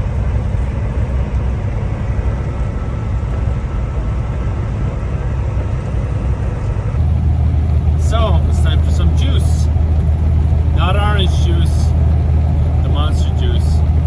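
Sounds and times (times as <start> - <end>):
truck engine and road rumble: 0.0 - 14.0.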